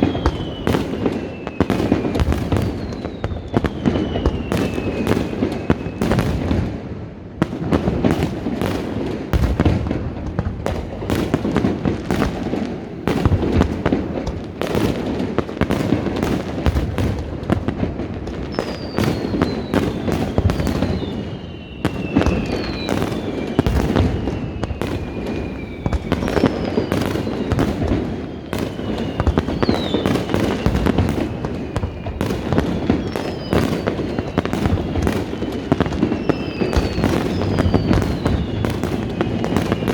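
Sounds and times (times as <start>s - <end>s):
falling firework whistles: 0.0s - 39.9s
firework bangs and crackling: 0.0s - 39.9s.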